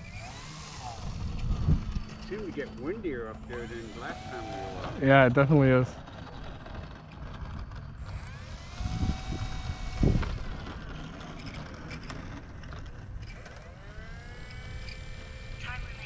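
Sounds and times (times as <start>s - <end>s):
wind rumbling on microphone: 0.0s - 3.9s, 6.0s - 16.0s
electric motor and propeller whine: 0.0s - 16.0s.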